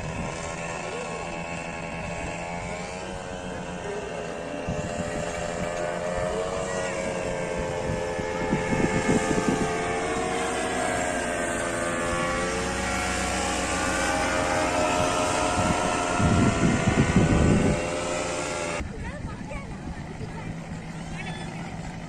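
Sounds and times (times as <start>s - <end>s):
small engine running: 0.0s - 22.0s
wind buffeting microphone: 0.0s - 22.0s.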